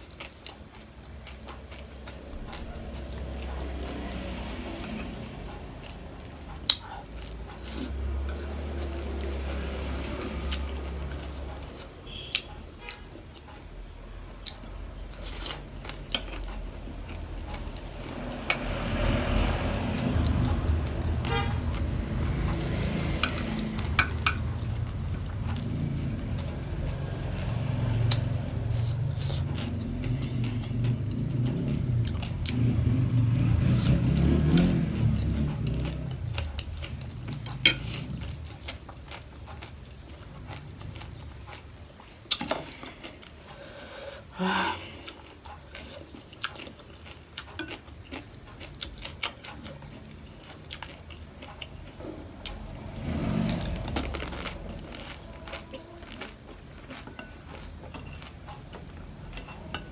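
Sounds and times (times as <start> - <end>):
close chewing and munching: 0.0 - 59.9.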